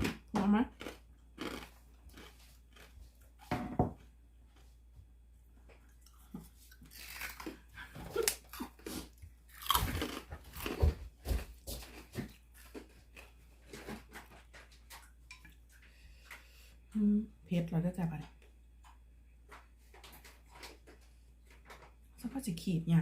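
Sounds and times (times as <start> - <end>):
person chewing and crunching food: 0.0 - 16.9, 18.4 - 22.1.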